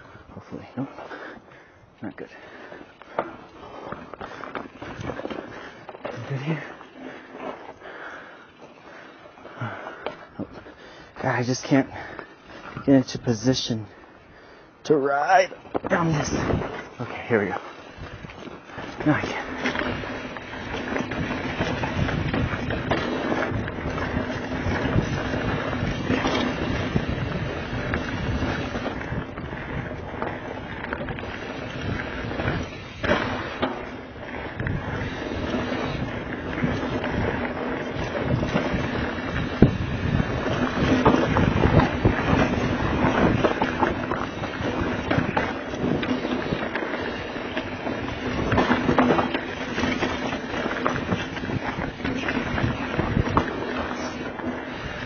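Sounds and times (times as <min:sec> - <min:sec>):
bike tyres crunching on dirt: 0:00.0 - 0:55.0.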